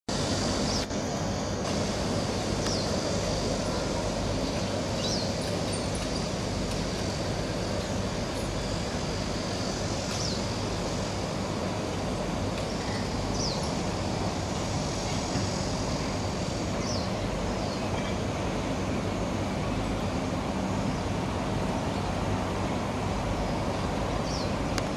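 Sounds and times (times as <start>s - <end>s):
train running on a viaduct: 0.1s - 24.9s.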